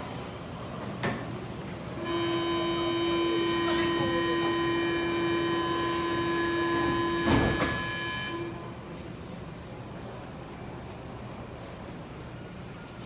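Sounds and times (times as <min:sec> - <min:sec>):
metro train electrical whine: 0:00.0 - 0:13.0.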